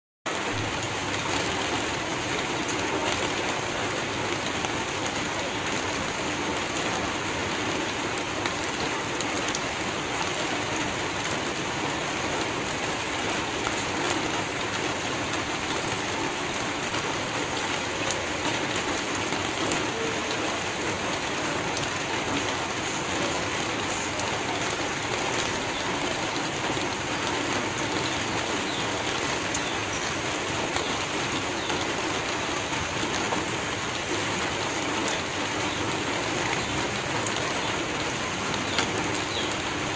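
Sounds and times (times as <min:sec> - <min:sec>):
steady rain: 0:00.3 - 0:39.9.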